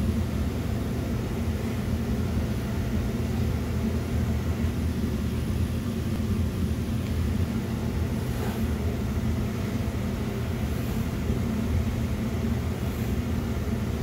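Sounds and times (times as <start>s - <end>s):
bench buffer running: 0.0s - 14.0s.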